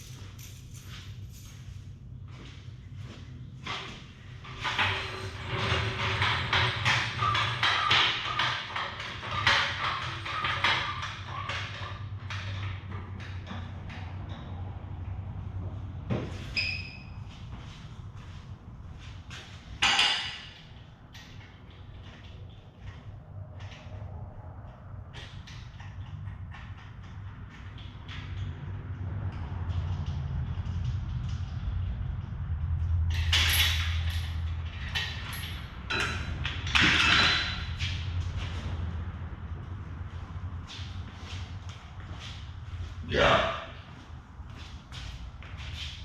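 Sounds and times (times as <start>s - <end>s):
steady low hum: 0.0s - 10.4s, 11.7s - 46.0s
scraping and creaking parts: 0.0s - 46.0s.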